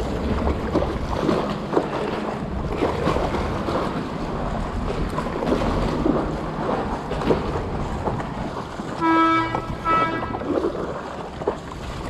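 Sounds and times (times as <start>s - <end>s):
paddle splashing through water: 0.0s - 12.0s
water slapping against board: 0.0s - 12.0s
wind rumble on microphone: 0.0s - 12.0s.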